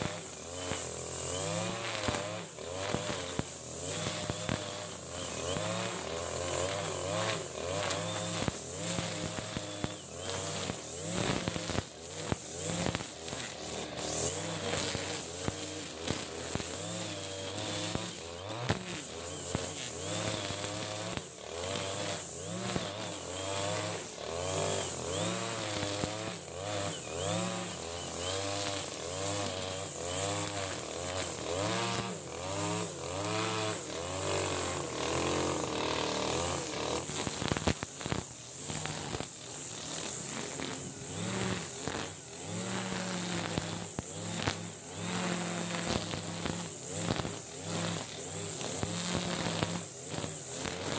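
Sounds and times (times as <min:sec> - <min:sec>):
brush cutter engine cutting grass: 0:00.0 - 0:50.9.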